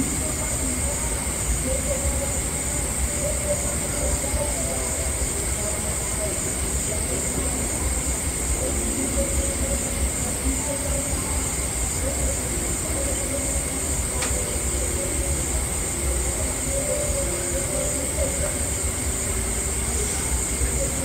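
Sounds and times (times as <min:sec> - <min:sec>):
night insects droning: 0:00.0 - 0:21.0.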